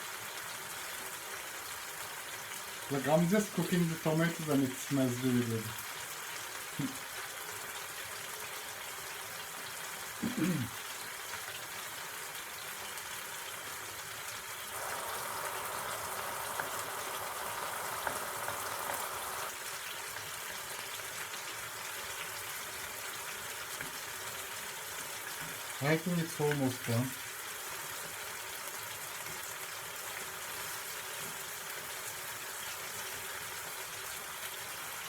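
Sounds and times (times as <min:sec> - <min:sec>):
tomatoes sizzling in a frying pan: 0:00.0 - 0:35.0.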